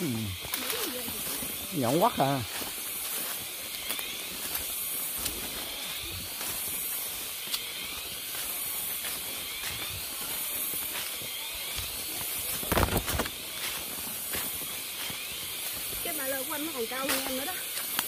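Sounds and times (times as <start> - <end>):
insect chorus hissing drone: 0.0 - 18.0.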